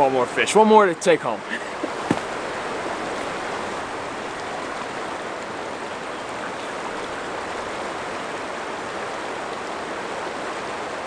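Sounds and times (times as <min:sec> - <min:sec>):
river rushing over boulders: 0:00.0 - 0:11.0.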